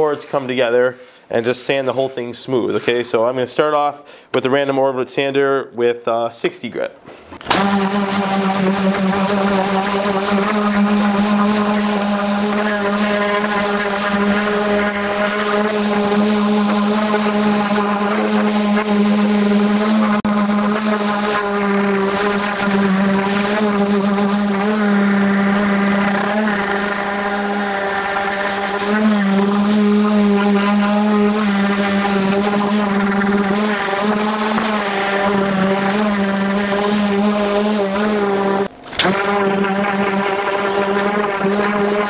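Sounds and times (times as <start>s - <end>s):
orbital sander humming on wood: 7.4s - 42.0s.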